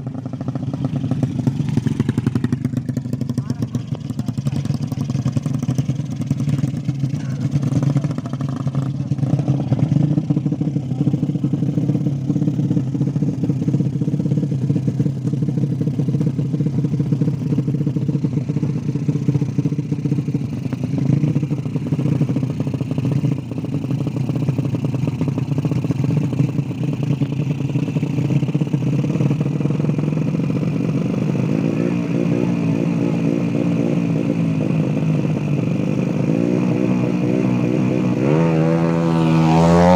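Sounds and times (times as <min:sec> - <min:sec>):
motorbike engine running and revving: 0:00.0 - 0:39.9.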